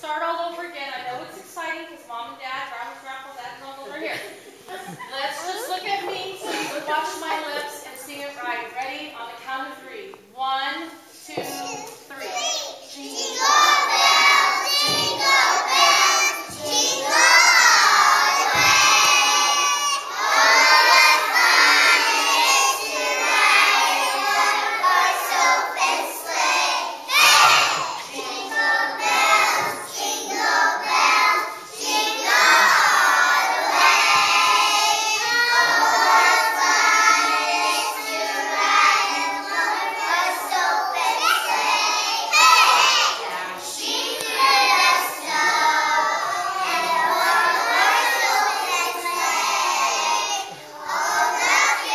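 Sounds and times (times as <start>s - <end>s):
children singing together: 4.2s - 7.5s, 11.2s - 51.9s.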